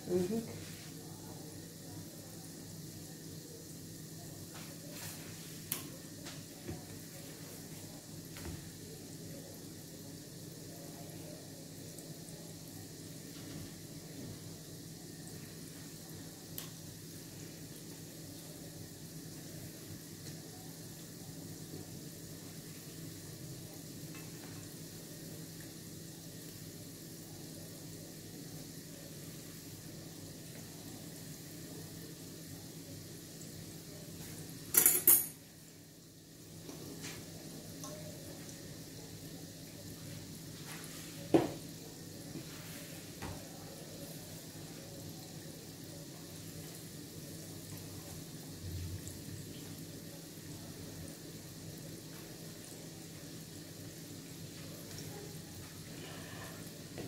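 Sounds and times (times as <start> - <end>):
doughnuts sizzling in oil: 0.0 - 57.0.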